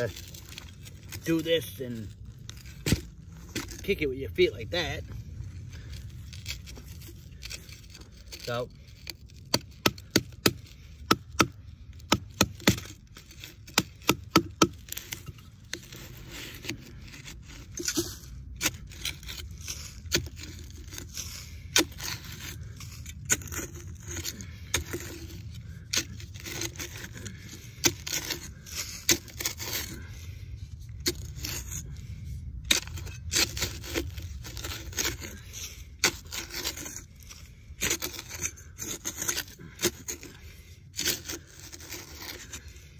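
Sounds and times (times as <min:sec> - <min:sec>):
shovel scraping and chopping dirt: 0:00.0 - 0:42.9.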